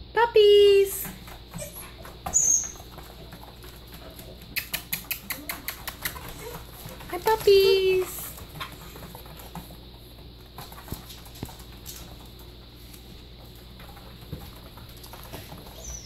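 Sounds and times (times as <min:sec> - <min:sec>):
steady low hum: 0:00.0 - 0:16.0
dog paws padding on foam mats: 0:00.5 - 0:16.0.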